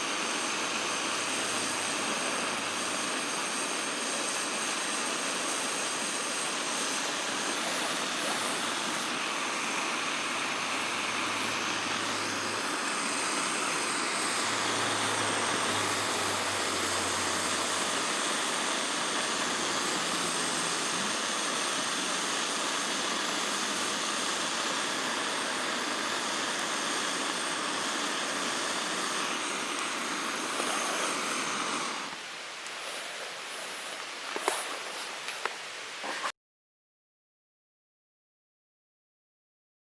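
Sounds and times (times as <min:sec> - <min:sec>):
river water flowing: 0:00.0 - 0:23.3, 0:24.0 - 0:36.1.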